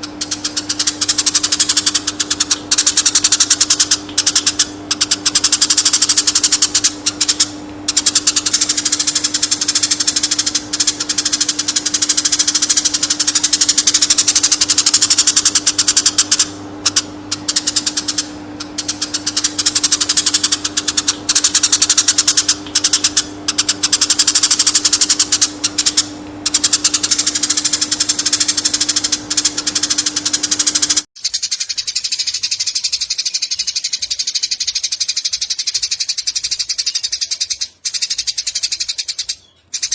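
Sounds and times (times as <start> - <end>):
electrical hum: 0.0 - 39.9
sparrow chirping: 0.2 - 39.9.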